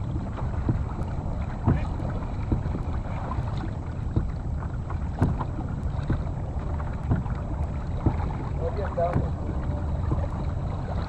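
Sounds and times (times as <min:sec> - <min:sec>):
water knocking against kayak hull: 0:00.0 - 0:11.0
wind on microphone: 0:00.0 - 0:11.0.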